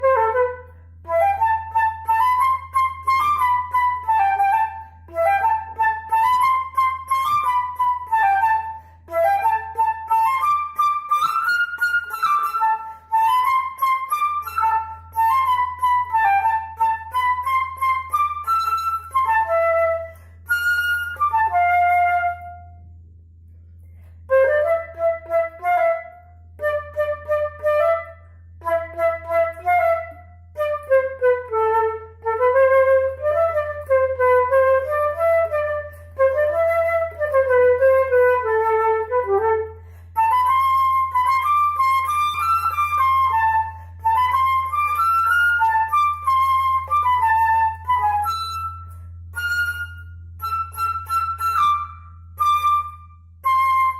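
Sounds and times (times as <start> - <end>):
solo flute melody: 0.0 - 23.0, 24.0 - 53.9.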